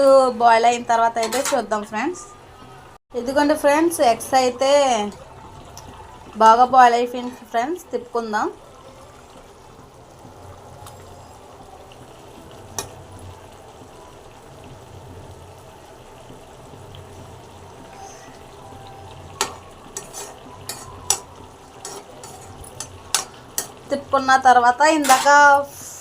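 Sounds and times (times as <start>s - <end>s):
curry bubbling and sizzling: 0.0s - 26.0s.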